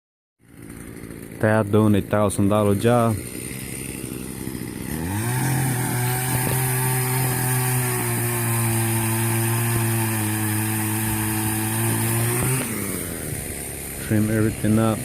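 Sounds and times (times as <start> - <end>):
small gasoline engine revving: 0.4 - 15.0.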